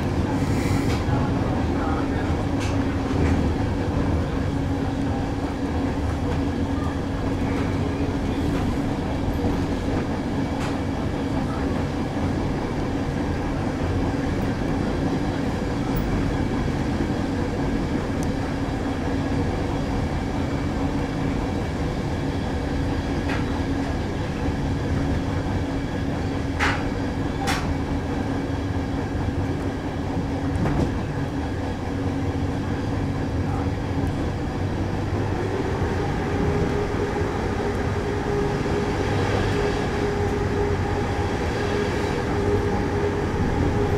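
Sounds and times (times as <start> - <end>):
constant hum: 0.0 - 43.9
train rumble: 0.0 - 43.9.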